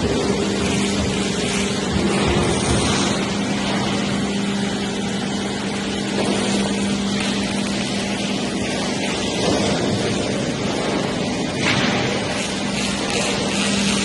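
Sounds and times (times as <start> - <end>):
plate rolling machine humming: 0.0 - 14.0.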